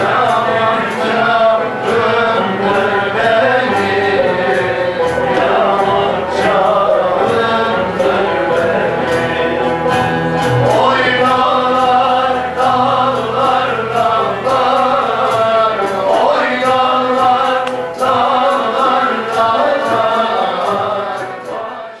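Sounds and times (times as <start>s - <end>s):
frame drums beating: 0.0s - 21.7s
choir singing in unison: 0.0s - 22.0s
plucked lutes: 0.0s - 22.0s.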